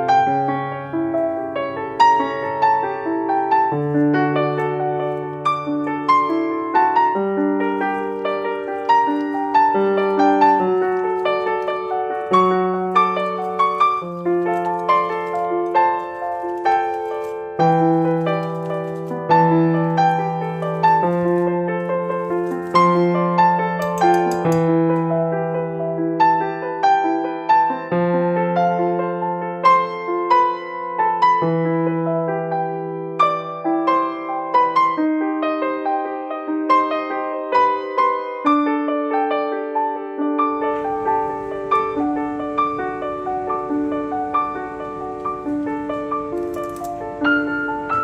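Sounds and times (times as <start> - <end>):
gentle piano music: 0.0 - 48.0.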